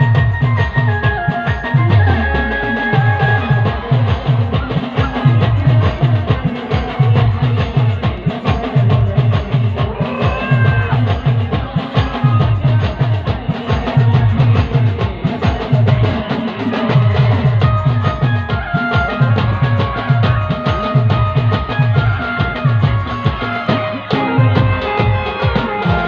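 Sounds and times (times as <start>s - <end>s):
fast deep drum beat: 0.0s - 26.0s
keyboard: 0.0s - 26.0s.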